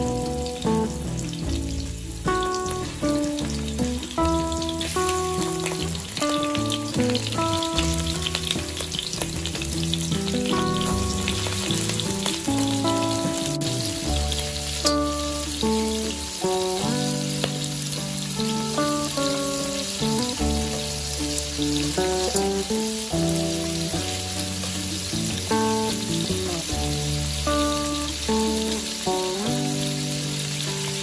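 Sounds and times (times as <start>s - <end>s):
shrimp sizzling in hot oil: 0.0s - 31.0s.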